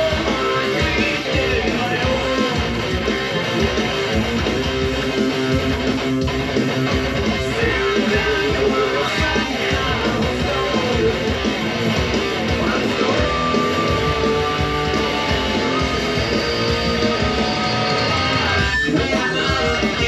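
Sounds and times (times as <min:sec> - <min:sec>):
electric guitar riff: 0:00.0 - 0:20.0.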